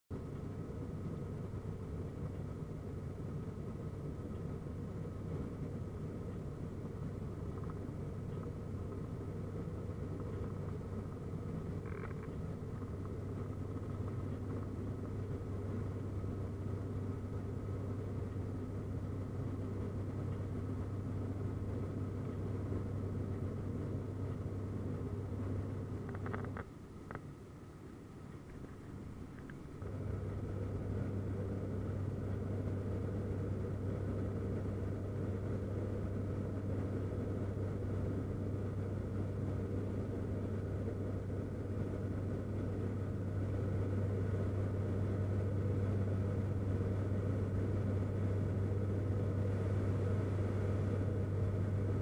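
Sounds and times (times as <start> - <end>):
airplane cabin drone: 0.1 - 52.0.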